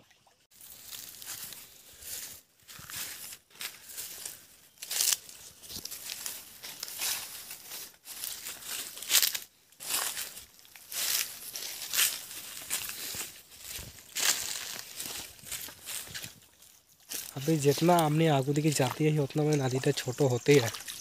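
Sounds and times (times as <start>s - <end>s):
rustling leaves and brush: 0.5s - 21.0s.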